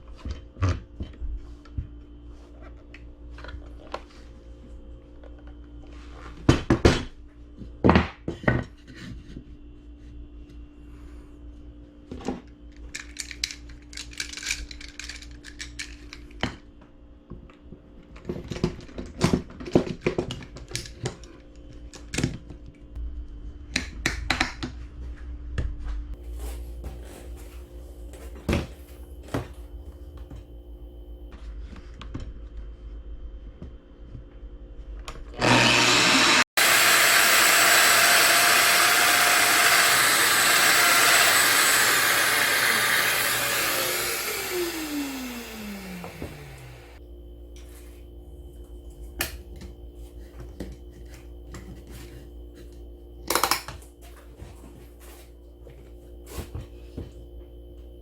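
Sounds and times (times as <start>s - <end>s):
steady low hum: 0.0s - 19.9s, 20.5s - 35.4s, 43.6s - 58.0s.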